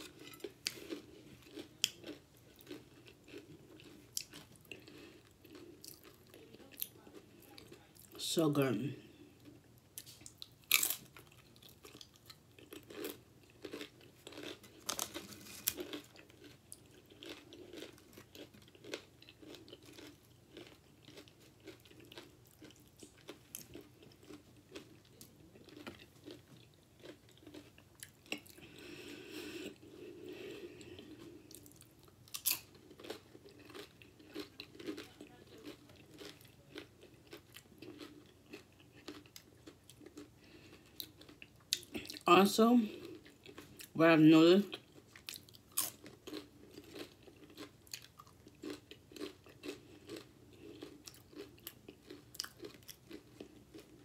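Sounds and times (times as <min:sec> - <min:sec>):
person chewing crunchy chips: 0:00.0 - 0:54.0.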